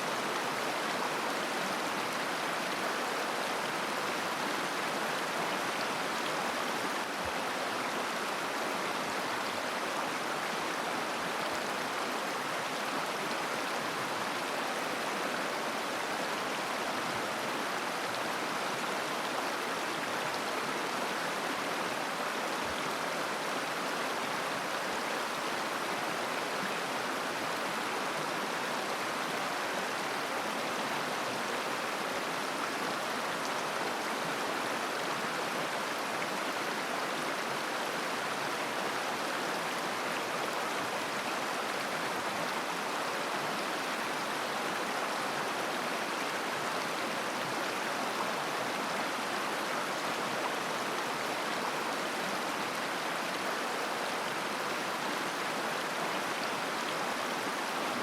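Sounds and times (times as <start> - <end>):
river babbling: 0.0 - 58.0.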